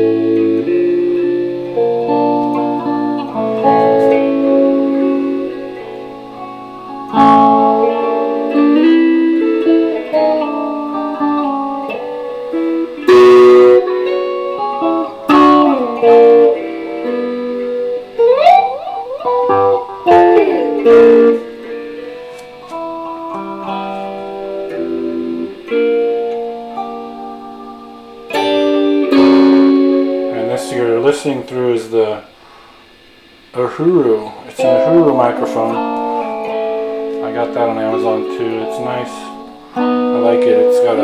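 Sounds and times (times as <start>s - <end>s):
electric guitar playing: 0.0s - 41.0s.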